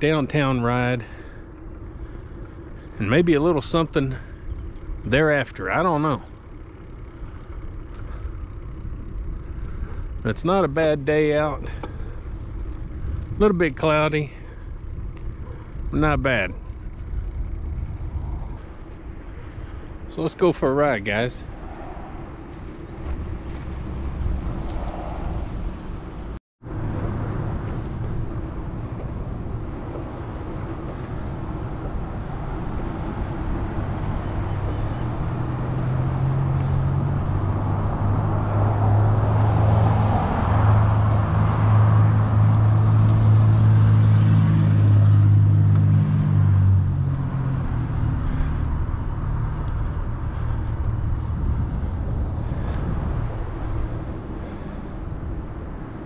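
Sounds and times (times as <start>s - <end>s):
motor vehicle engine running: 0.0s - 56.0s
wind and road noise: 0.0s - 56.0s.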